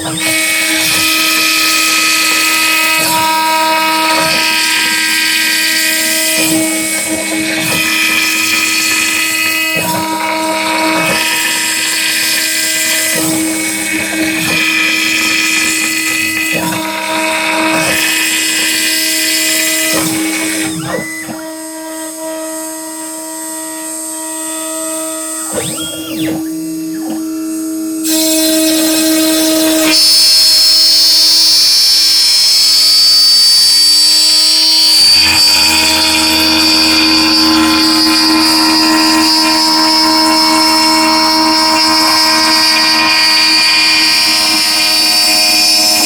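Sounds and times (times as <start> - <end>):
spindle whining: 0.0 - 46.0
stepper motors singing tones: 0.0 - 46.0.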